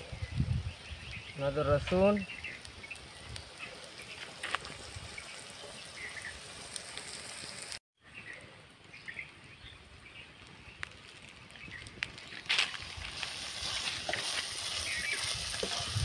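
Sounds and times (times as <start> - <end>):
faint birds chirping: 0.0 - 6.7, 8.0 - 12.5, 13.8 - 16.0
onion and garlic sizzling in oil: 0.0 - 7.8, 10.1 - 16.0.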